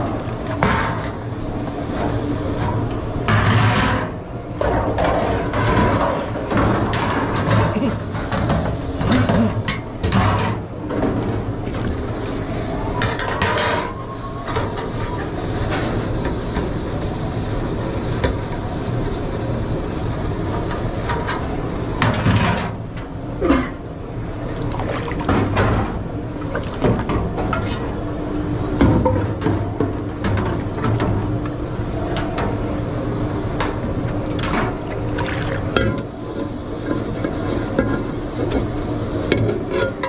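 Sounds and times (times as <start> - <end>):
low hum of kitchen machinery: 0.0 - 40.0.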